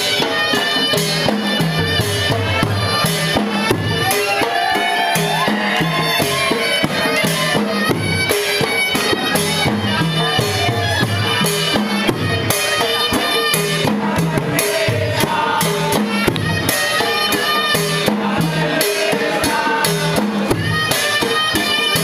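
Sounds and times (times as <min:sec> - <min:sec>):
dhol drums beaten with sticks: 0:00.0 - 0:22.0.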